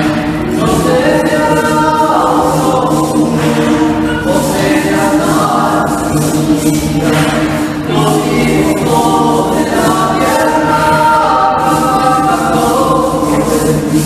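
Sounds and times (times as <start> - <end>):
choir singing in harmony: 0.0 - 14.0.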